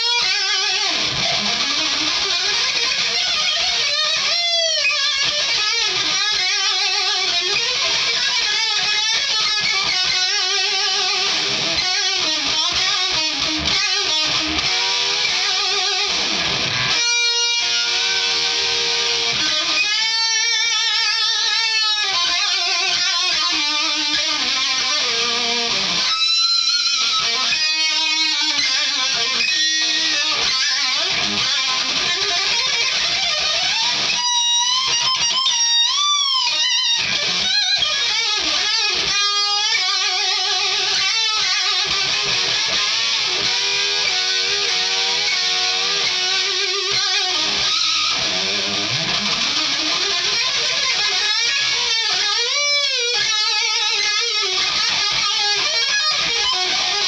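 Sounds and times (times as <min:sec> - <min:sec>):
distorted electric guitar solo: 0:00.0 - 0:57.0.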